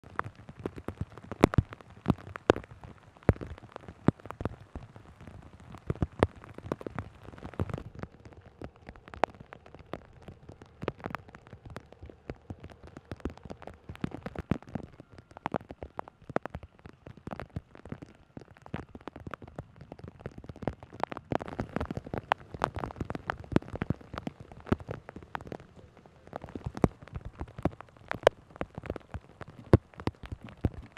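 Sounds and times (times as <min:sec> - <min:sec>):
heavy rain on hard surfaces: 0:00.0 - 0:30.9.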